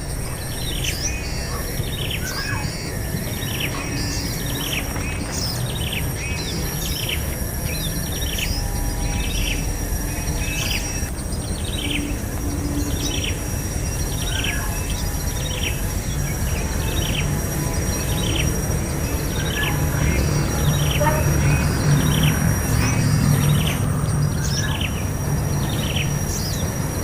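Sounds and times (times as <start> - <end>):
high insect whine: 0.0 - 27.0.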